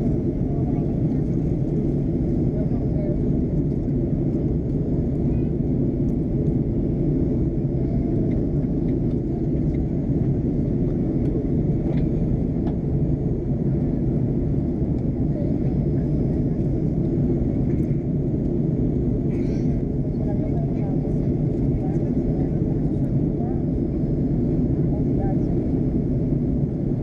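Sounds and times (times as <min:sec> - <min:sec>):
jet engine drone: 0:00.0 - 0:27.0.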